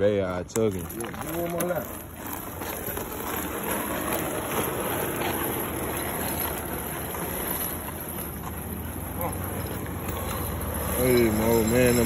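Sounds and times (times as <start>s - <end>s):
steel chain dragged over concrete: 0.0s - 12.0s.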